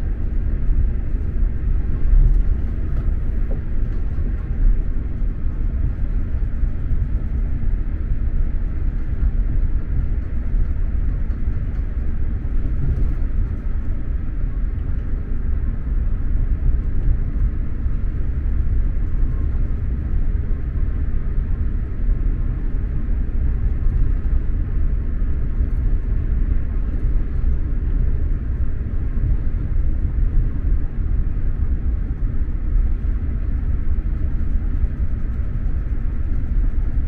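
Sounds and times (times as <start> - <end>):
faint steady hum: 0.0 - 37.0
train rumble inside carriage: 0.0 - 37.0.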